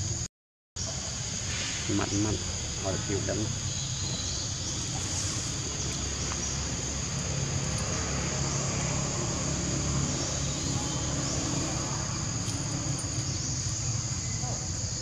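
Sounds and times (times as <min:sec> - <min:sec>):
high-pitched insect drone: 0:00.8 - 0:15.0
vehicle engine hum: 0:01.2 - 0:15.0.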